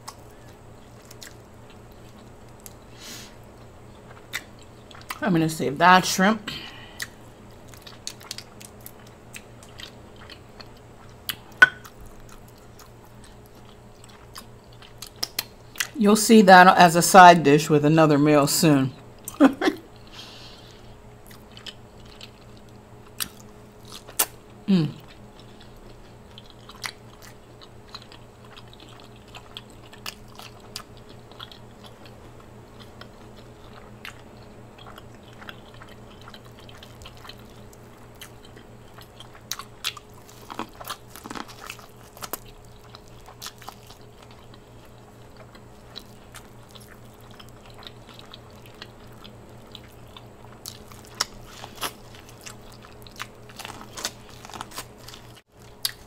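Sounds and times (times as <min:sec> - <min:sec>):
chewing and wet mouth smacks: 0:00.0 - 0:02.8, 0:03.6 - 0:05.2, 0:07.0 - 0:16.0, 0:21.2 - 0:56.0.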